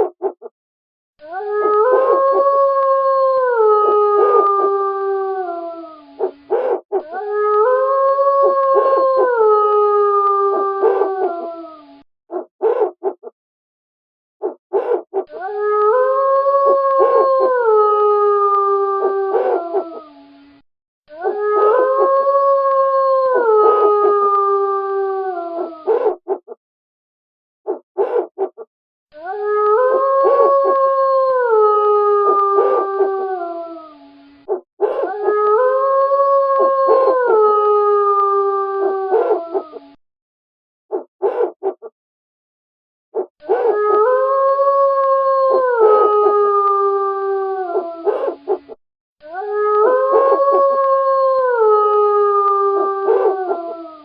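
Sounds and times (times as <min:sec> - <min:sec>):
wolves howling: 0:01.2 - 0:13.2, 0:14.4 - 0:20.4, 0:21.1 - 0:26.5, 0:27.7 - 0:28.6, 0:29.2 - 0:40.0, 0:40.9 - 0:41.9, 0:43.2 - 0:54.0.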